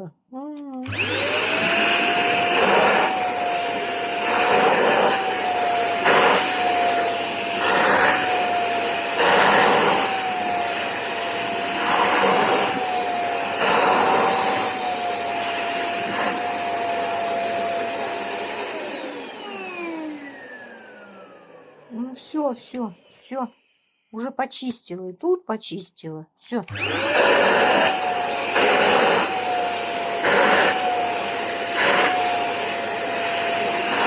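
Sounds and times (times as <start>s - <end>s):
vacuum motor winding down: 0.8s - 23.2s, 26.7s - 34.0s
vacuum cleaner running: 0.8s - 24.0s, 26.7s - 34.0s.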